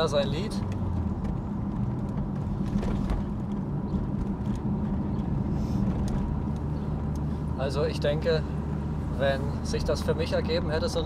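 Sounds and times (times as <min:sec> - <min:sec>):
car engine pulling uphill: 0:00.0 - 0:11.0
wind and road noise: 0:00.0 - 0:11.0.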